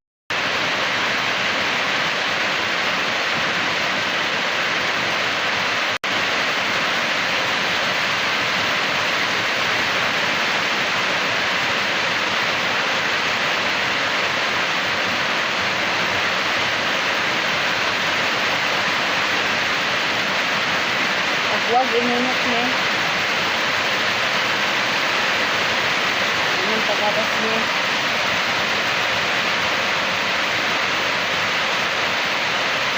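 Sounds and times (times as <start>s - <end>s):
rushing flood water: 0.3s - 32.9s.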